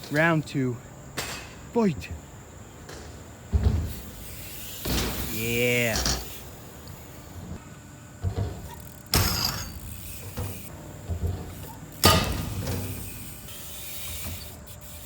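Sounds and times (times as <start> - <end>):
bike tyres rolling rumble: 1.0 - 15.0
bike knocking on ramps: 2.2 - 15.0.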